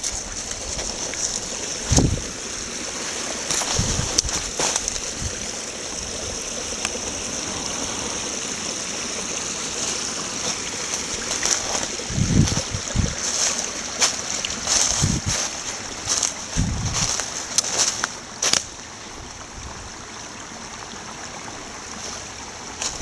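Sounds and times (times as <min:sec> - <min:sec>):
stream trickling and babbling: 0:00.0 - 0:23.0.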